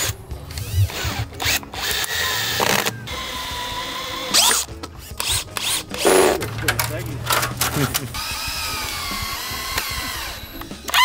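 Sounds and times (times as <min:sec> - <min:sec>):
cordless drill motor whining: 0:00.0 - 0:06.4, 0:08.1 - 0:11.0.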